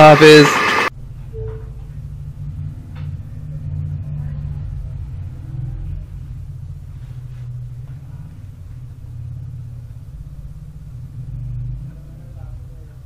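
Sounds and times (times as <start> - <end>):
low bass rumble: 0.9 - 13.0.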